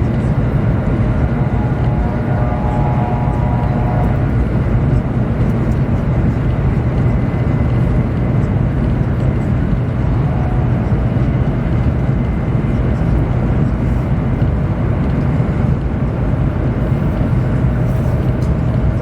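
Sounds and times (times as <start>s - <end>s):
faint whine: 0.0s - 15.6s
train interior rumble and hum: 0.0s - 19.0s.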